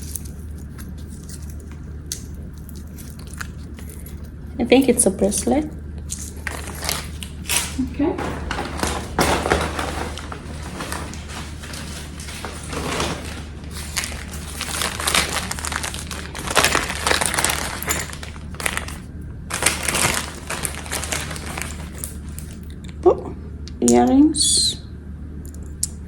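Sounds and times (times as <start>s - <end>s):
plastic packaging crinkling: 0.0s - 22.8s
low hum: 0.0s - 26.0s.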